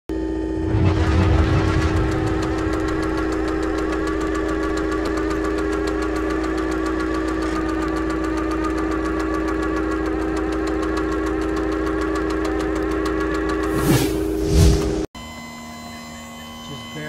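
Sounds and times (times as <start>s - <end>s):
machine hum: 0.1s - 15.1s.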